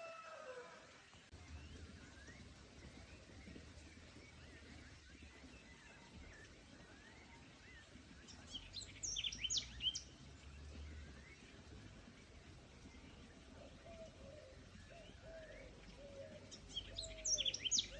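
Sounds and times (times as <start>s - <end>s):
forest birds chirping: 0.0s - 17.9s.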